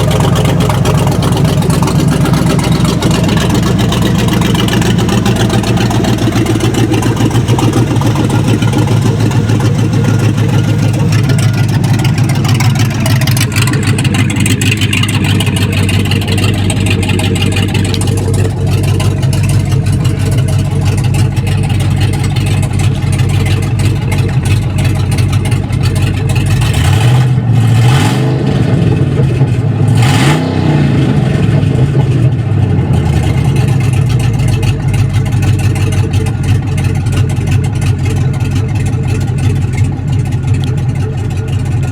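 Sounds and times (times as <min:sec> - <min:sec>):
car engine running and revving: 0:00.0 - 0:41.9.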